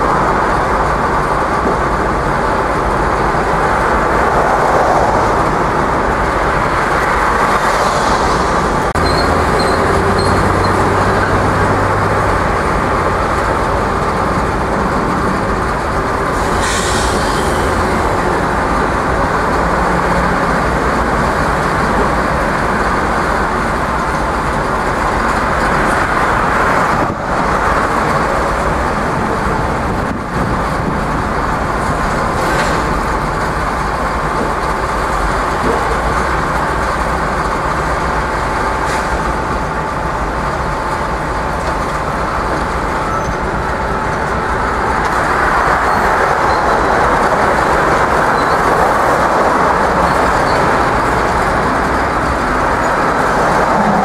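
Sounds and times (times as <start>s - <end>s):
heavy diesel equipment running: 0.0s - 54.0s.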